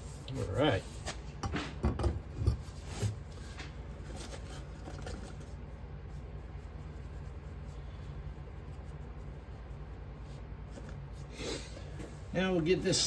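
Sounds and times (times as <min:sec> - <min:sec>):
faint rustling and scraping: 0:00.0 - 0:13.0
steady low hum: 0:00.0 - 0:13.0.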